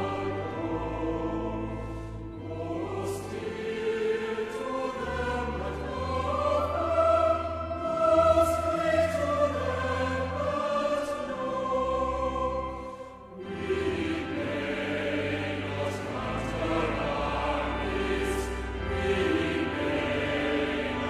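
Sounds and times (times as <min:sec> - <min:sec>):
choir singing held notes: 0:00.0 - 0:21.0.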